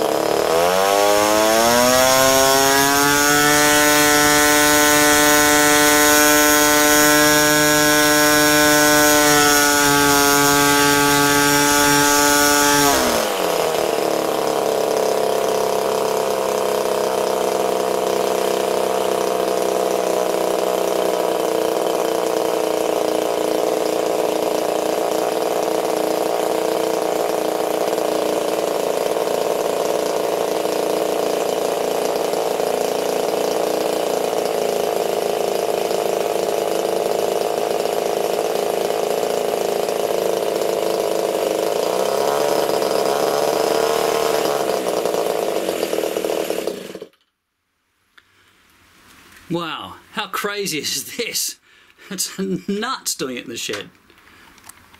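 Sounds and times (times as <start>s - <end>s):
small two-stroke engine revving: 0.0s - 47.2s.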